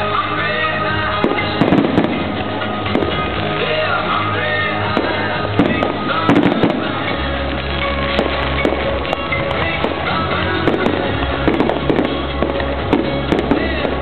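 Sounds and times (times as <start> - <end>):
fireworks banging and crackling: 0.0 - 14.0
loud music with steady bass: 0.0 - 14.0.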